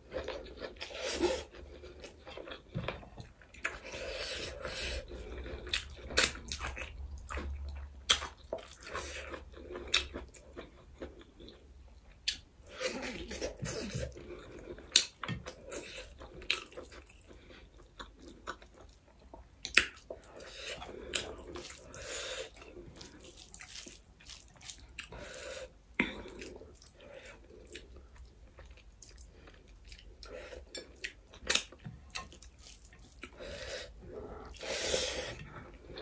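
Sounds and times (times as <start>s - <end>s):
chewing and wet mouth sounds: 0.0s - 36.0s.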